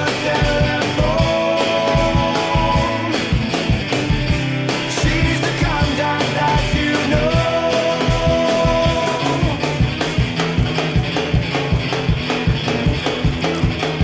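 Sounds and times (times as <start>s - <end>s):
rock music with drum beat: 0.0s - 14.0s.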